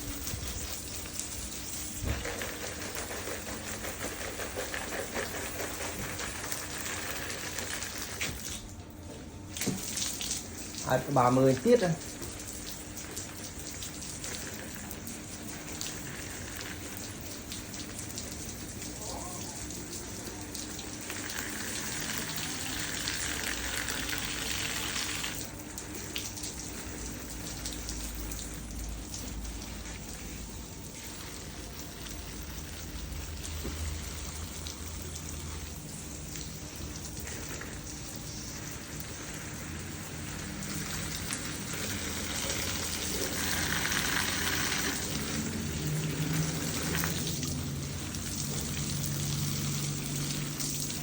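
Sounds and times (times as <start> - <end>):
water spattering: 0.0 - 8.9, 9.5 - 51.0
falling water drops: 6.4 - 51.0.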